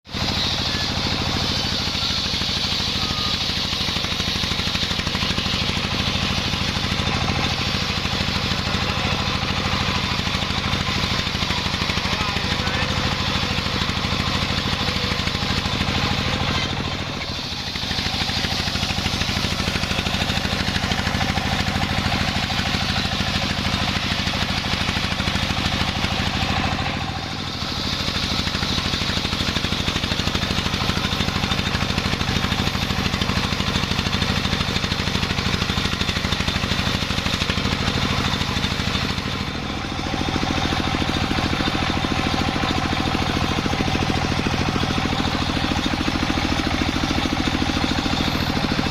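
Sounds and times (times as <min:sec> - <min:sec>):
sawmill saw running: 0:00.0 - 0:48.9.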